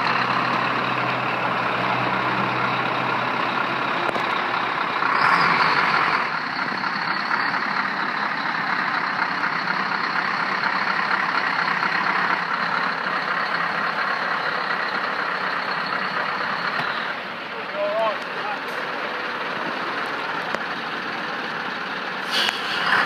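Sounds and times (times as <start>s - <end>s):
diesel lorry engine running: 0.0s - 23.0s.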